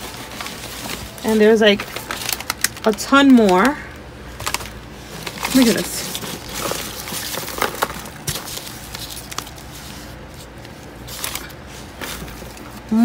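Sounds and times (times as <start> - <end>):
paper packaging rustling: 0.0 - 13.0.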